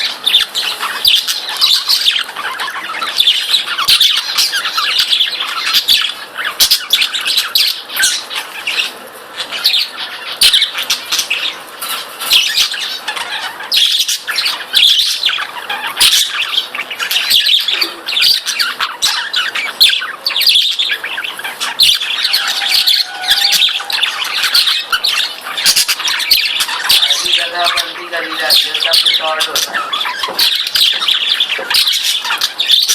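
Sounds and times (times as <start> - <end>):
budgerigars chattering and squawking: 0.0 - 32.9.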